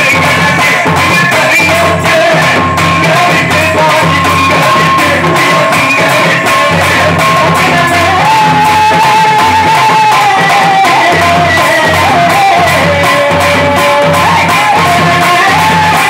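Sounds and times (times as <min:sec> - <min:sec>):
drums: 0:00.0 - 0:16.0.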